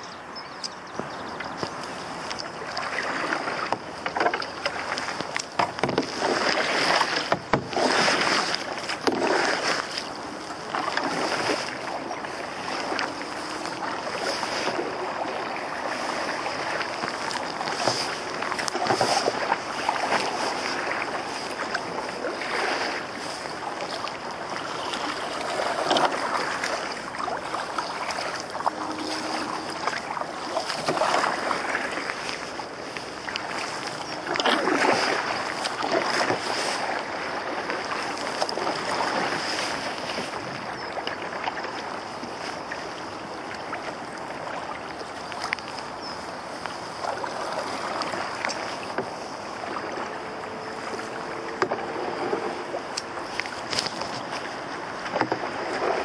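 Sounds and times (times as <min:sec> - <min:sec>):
water splashing against canoe hull: 0:00.6 - 0:56.0.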